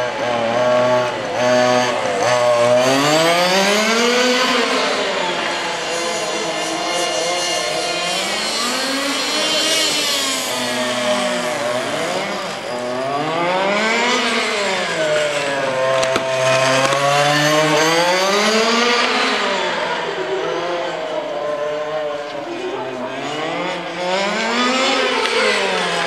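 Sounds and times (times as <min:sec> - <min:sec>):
rc car motor revving: 0:00.0 - 0:26.0.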